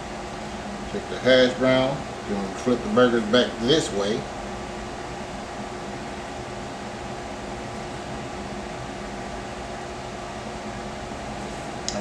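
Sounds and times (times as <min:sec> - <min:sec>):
fan hum and hiss: 0:00.0 - 0:12.0.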